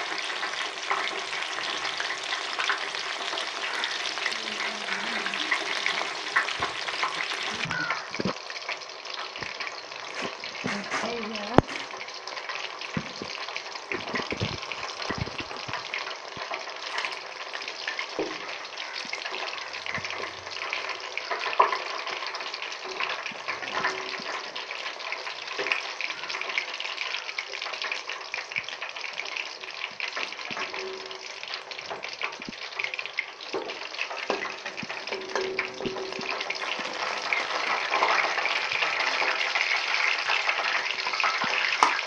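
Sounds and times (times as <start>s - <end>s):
food deep-frying in hot oil: 0.0s - 42.0s.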